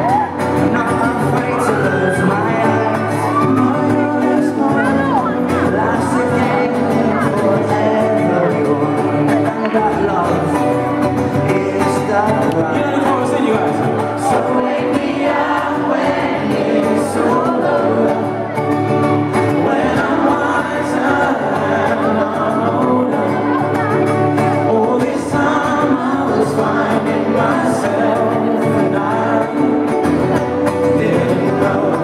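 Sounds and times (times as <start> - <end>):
person singing lead vocals: 0.0 - 32.0
strummed acoustic guitar: 0.0 - 32.0
ukulele: 0.0 - 32.0.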